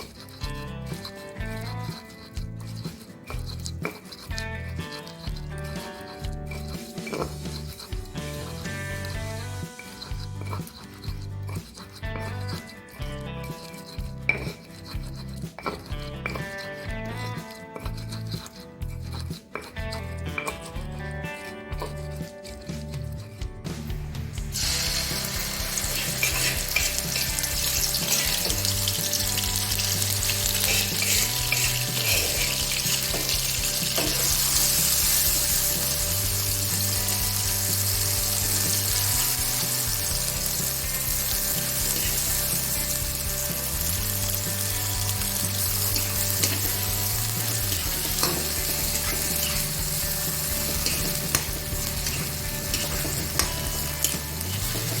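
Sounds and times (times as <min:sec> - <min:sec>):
food sizzling in hot oil: 0:00.0 - 0:17.0, 0:24.4 - 0:55.0.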